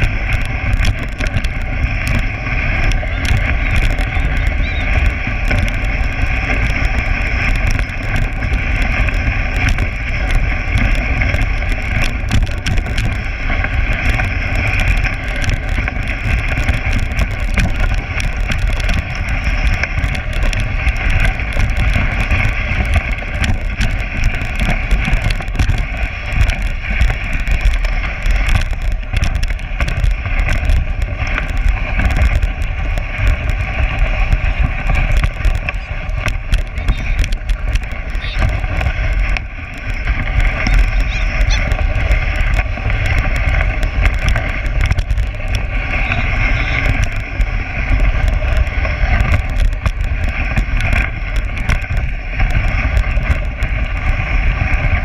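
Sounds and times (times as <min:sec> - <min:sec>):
sled runners hissing on snow: 0:00.0 - 0:12.3, 0:13.1 - 0:55.0
sled knocking and rattling: 0:00.0 - 0:55.0
wind rumbling on microphone: 0:00.0 - 0:55.0.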